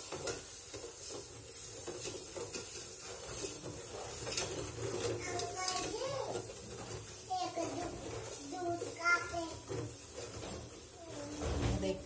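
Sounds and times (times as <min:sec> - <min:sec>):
spoon scraping a steel pan: 0:00.0 - 0:12.0.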